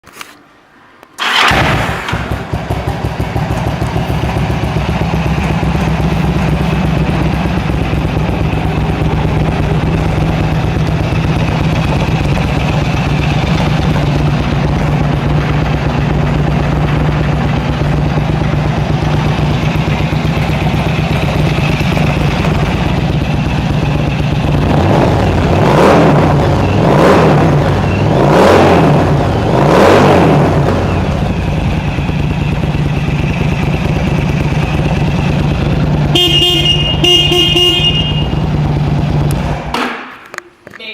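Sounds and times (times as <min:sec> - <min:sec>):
motorcycle engine idling and revving: 0:01.2 - 0:40.4.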